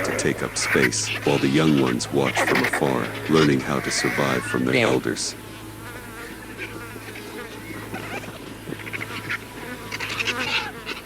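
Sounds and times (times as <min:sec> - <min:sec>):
insect-like buzz: 0:00.0 - 0:11.0
vultures rasping calls: 0:00.0 - 0:11.0.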